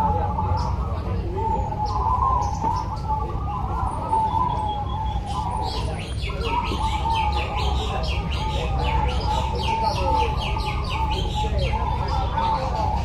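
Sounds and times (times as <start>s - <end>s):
doves cooing: 0.0s - 13.0s
small birds chirping: 0.0s - 13.0s.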